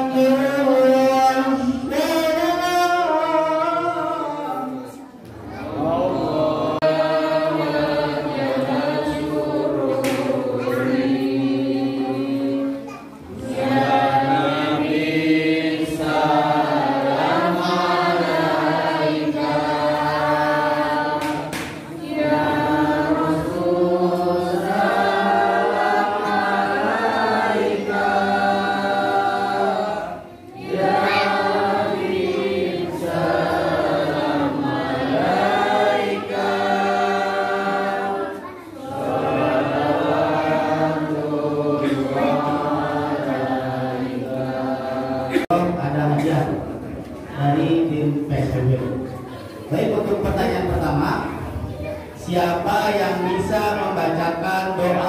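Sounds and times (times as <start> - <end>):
group of voices singing: 0.0 - 55.0.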